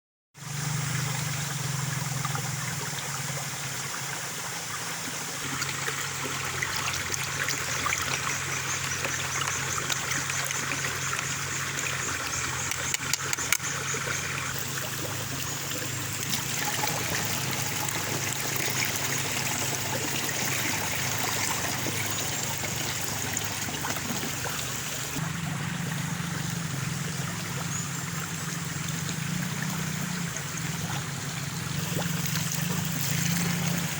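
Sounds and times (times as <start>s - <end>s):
water running and trickling: 0.4s - 33.9s.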